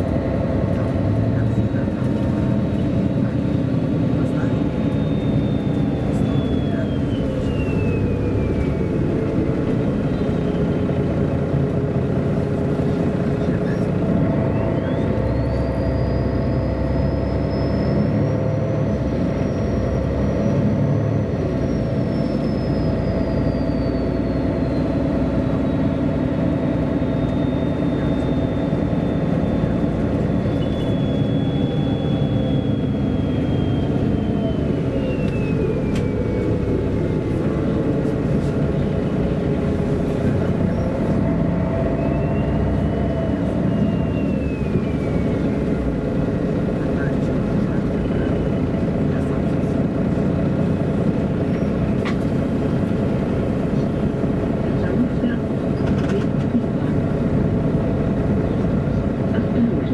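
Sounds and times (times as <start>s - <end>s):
bus engine rumble: 0.0s - 59.9s
high drivetrain whine: 0.0s - 59.9s.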